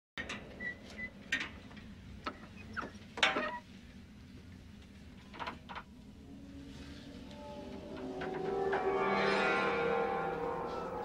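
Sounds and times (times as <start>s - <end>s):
low steady hum: 0.2s - 11.0s.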